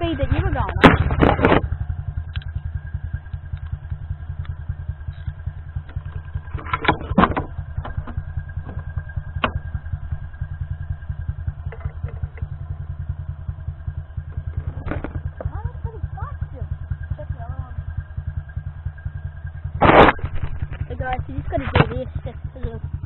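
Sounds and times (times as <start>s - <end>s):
small engine idling: 0.0s - 23.0s.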